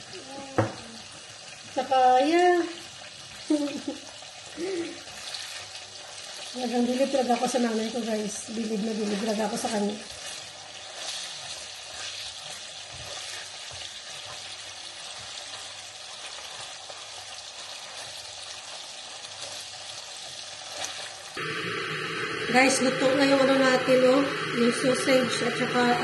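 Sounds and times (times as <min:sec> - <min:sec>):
sausages and eggs sizzling in a pan: 0:00.0 - 0:26.0.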